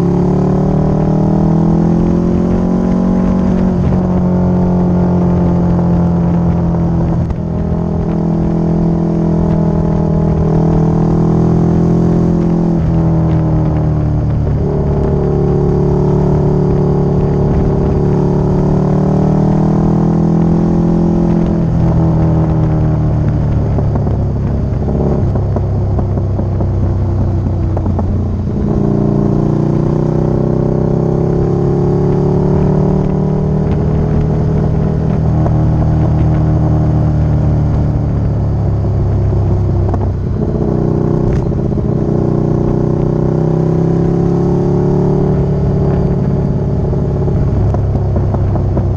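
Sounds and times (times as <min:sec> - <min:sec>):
motorcycle engine running: 0:00.0 - 0:48.9
wind and road rumble: 0:00.0 - 0:48.9.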